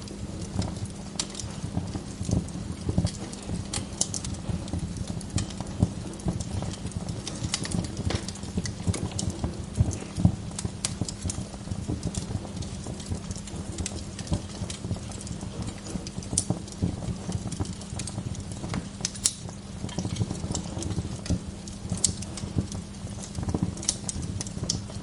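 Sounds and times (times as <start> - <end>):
fire low rumble: 0.0 - 25.0
wood fire crackling: 0.0 - 25.0.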